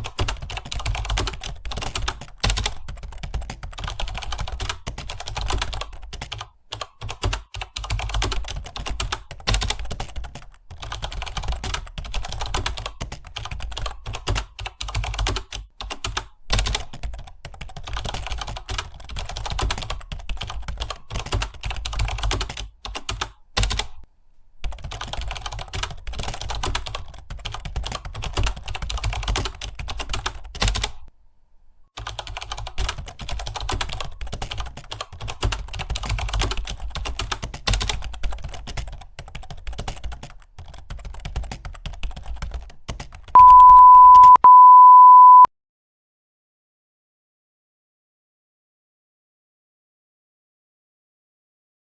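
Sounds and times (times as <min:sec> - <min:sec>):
fast keyboard typing: 0:00.0 - 0:24.0, 0:24.6 - 0:31.1, 0:32.0 - 0:45.4.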